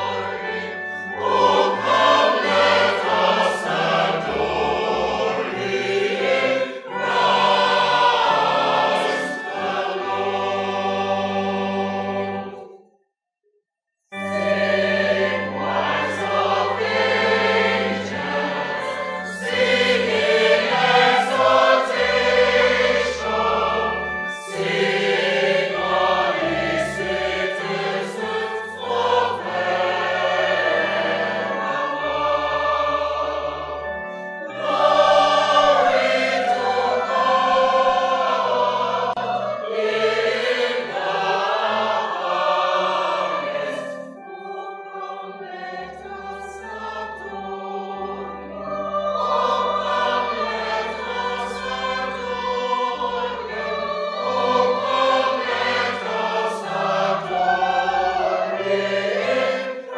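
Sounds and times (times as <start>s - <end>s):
choir singing a hymn: 0.0s - 12.8s, 14.1s - 59.9s
sustained instrumental accompaniment: 0.0s - 12.8s, 14.1s - 59.9s.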